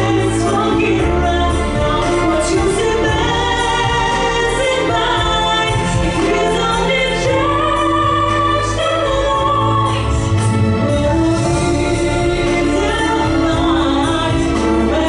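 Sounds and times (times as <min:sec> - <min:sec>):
instrumental backing track: 0:00.0 - 0:15.0
person singing: 0:00.0 - 0:15.0.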